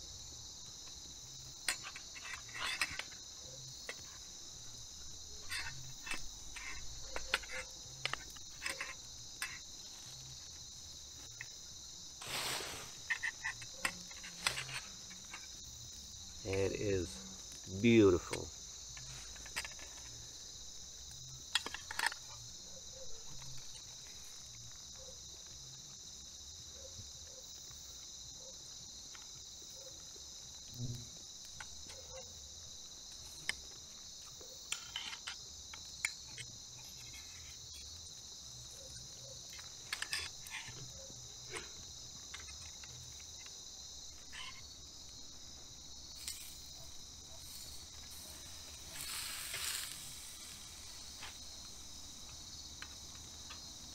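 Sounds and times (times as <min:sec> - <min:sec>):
night insects chorus: 0:00.0 - 0:53.9.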